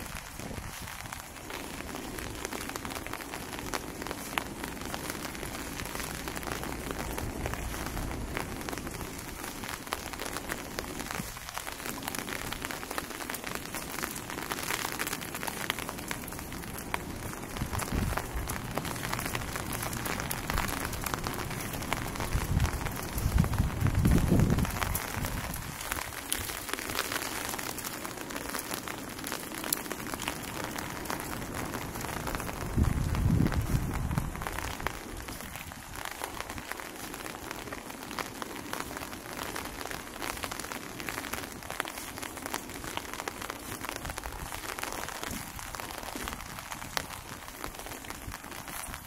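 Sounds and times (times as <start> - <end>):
raindrops ticking: 0.0 - 49.0
steady rain falling: 0.0 - 49.0.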